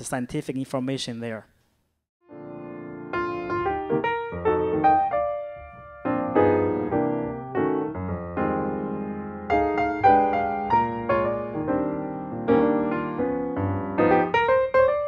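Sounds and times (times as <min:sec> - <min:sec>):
piano music: 0:02.2 - 0:15.0.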